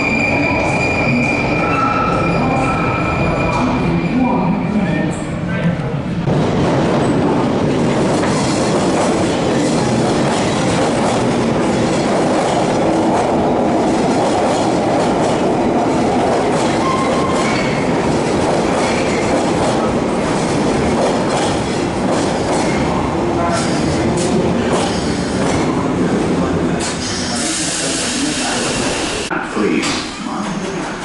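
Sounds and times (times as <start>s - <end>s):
train wheels rumbling on rail: 5.8s - 31.0s.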